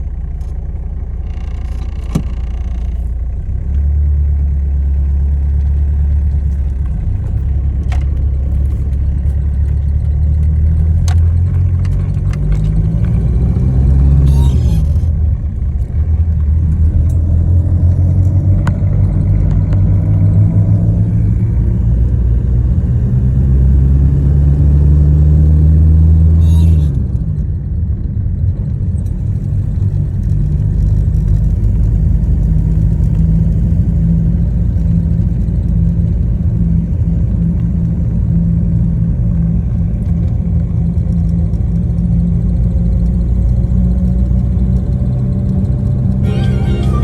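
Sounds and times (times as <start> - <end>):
engine running with low drone: 0.0 - 47.0.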